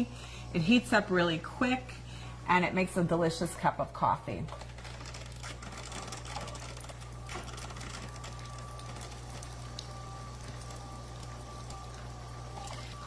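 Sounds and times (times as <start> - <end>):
coffee maker pump buzzing: 0.0 - 13.0
faint steady whine: 0.0 - 13.0.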